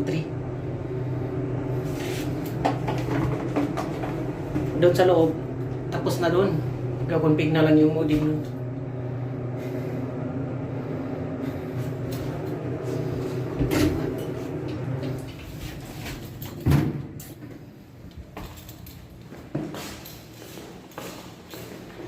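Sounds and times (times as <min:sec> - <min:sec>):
elevator car humming: 0:00.0 - 0:20.5.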